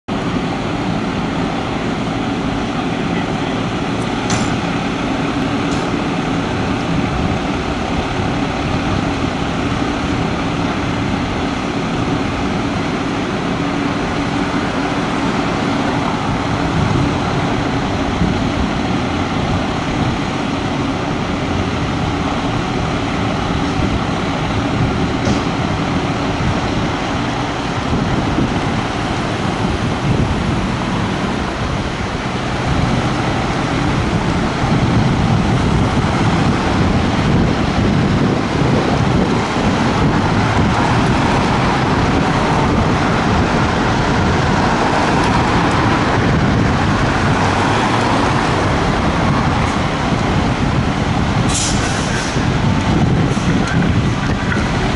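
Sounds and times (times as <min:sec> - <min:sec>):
diesel engine idling: 0:00.1 - 0:54.9.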